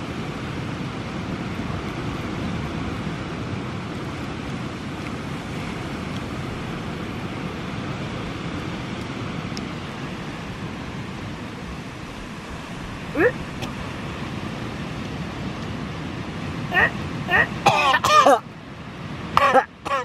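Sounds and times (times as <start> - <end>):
surf: 0.0 - 20.0.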